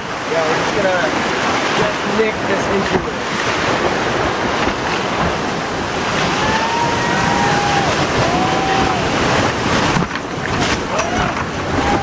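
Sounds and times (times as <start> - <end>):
whitewater rushing and splashing: 0.0 - 12.0.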